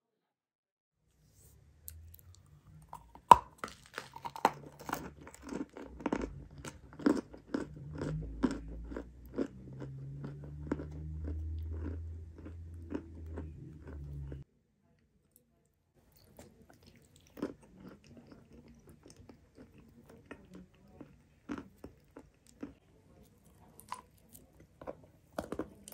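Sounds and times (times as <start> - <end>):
dry crunching chewing: 1.9 - 14.4, 16.0 - 25.9.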